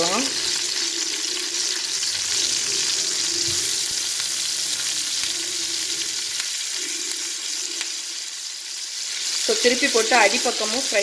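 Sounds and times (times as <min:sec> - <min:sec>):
fish sizzling in oil: 0:00.0 - 0:11.0.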